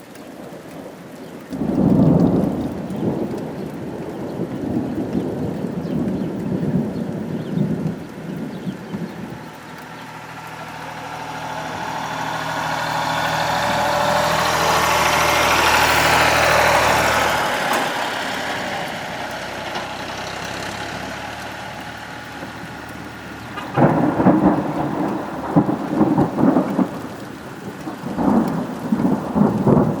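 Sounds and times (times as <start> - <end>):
rain falling: 0.0 - 30.0
rolling thunder: 0.5 - 30.0
loud thunderclap: 1.6 - 20.7, 22.4 - 30.0.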